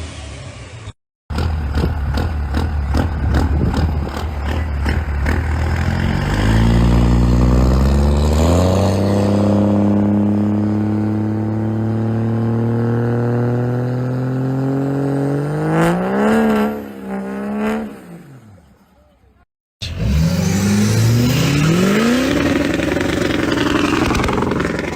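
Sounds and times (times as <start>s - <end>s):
diesel truck engine accelerating: 0.0s - 24.9s.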